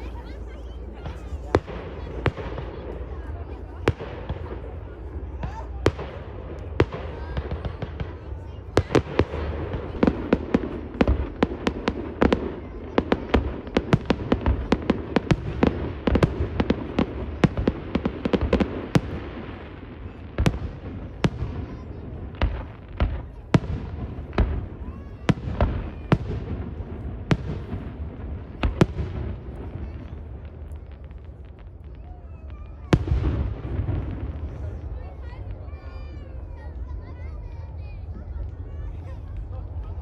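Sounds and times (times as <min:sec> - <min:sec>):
fireworks bursting: 0:00.0 - 0:37.1.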